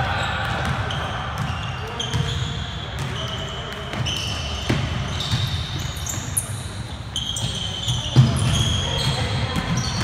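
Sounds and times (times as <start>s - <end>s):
sneakers squeaking on wooden floor: 0.1s - 10.0s.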